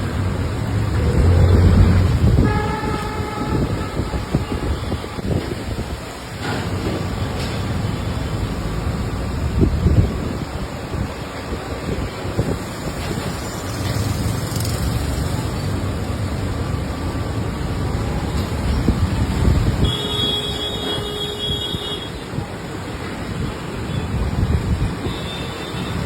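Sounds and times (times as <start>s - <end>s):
rumble of passing vehicles: 0.0s - 26.0s.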